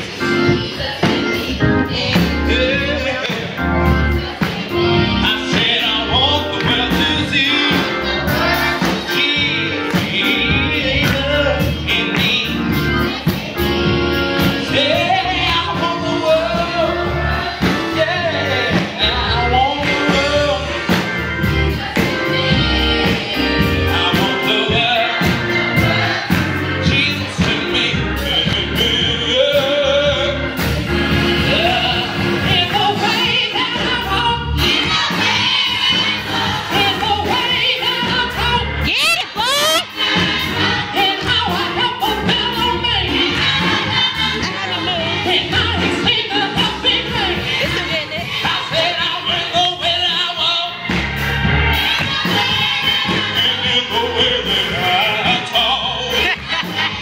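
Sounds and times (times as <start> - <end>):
children's gospel choir singing: 0.0 - 57.0
instrumental accompaniment with heavy bass: 0.0 - 57.0.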